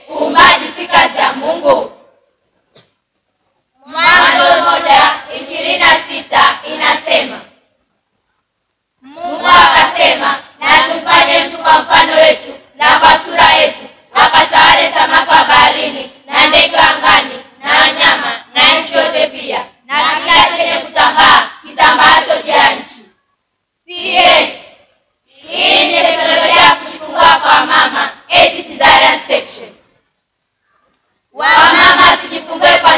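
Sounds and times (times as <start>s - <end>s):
children's voices in unison: 0.0s - 2.1s, 3.8s - 7.6s, 9.0s - 23.1s, 23.9s - 29.8s, 31.4s - 32.9s.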